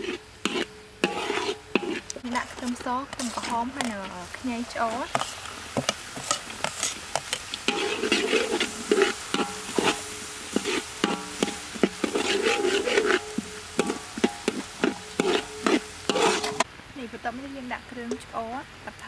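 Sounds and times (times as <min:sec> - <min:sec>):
food sizzling in hot oil: 0:00.0 - 0:16.7
metal spatula scraping a wok: 0:00.0 - 0:16.7.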